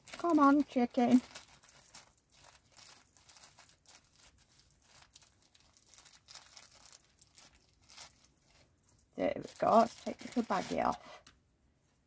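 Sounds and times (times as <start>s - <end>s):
soft fabric rustling: 0.0s - 11.2s.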